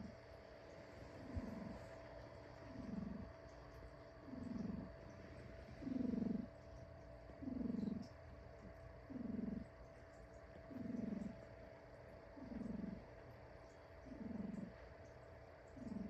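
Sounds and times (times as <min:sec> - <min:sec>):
cat snoring: 0:00.0 - 0:06.7, 0:07.3 - 0:09.8, 0:10.5 - 0:13.3, 0:14.0 - 0:15.0, 0:15.7 - 0:16.0.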